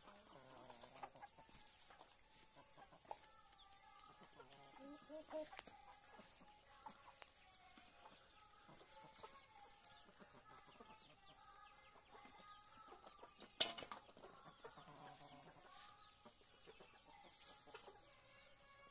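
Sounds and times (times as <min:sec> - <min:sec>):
chickens clucking faintly: 0:00.0 - 0:18.9.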